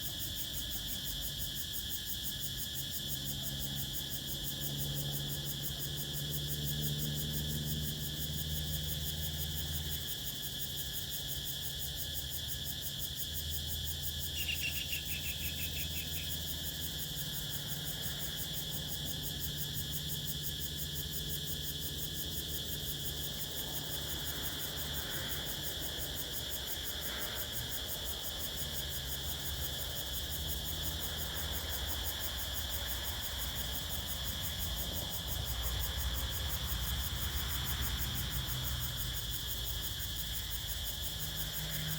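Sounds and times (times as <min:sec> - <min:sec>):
crickets chirring: 0:00.0 - 0:41.9
rapid insect trill: 0:00.0 - 0:41.9.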